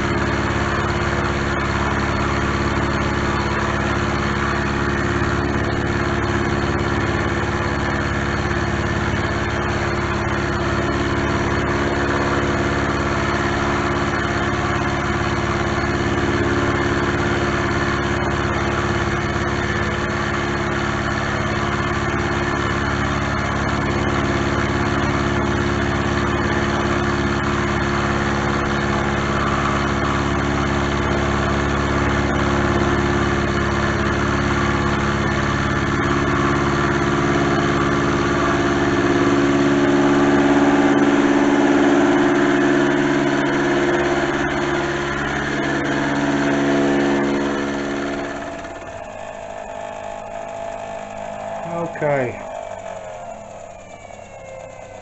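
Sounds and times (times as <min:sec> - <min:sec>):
milling machine cutting steel: 0:00.0 - 0:55.0.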